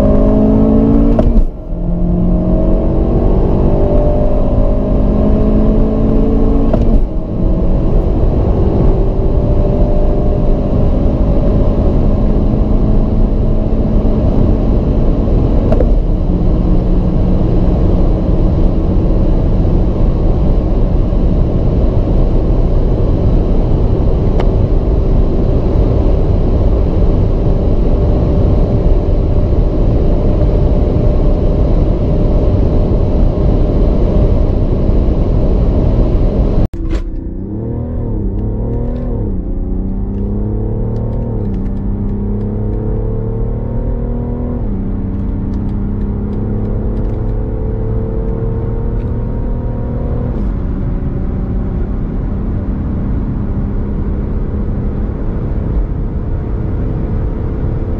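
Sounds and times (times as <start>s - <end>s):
car engine accelerating: 0.0s - 57.9s
wind and road noise: 0.0s - 57.9s.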